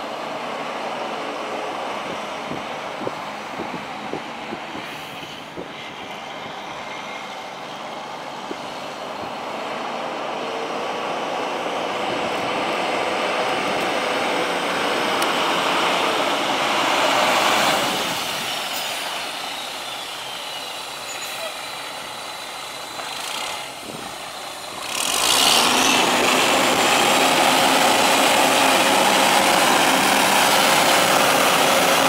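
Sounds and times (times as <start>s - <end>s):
truck engine passing: 0.0s - 32.0s.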